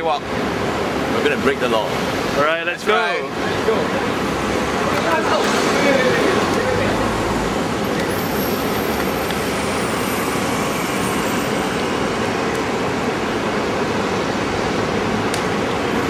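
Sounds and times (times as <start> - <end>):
road traffic rushing: 0.0 - 16.0.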